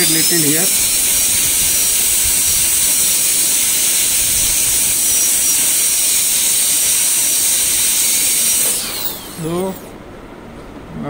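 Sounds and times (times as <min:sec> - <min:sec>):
dental drill whining with water spray: 0:00.0 - 0:10.0.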